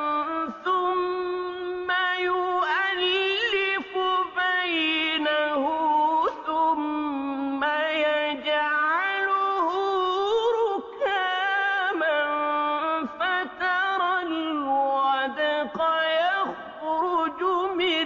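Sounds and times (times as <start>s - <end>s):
melodic recitation by one voice: 0.0s - 18.0s.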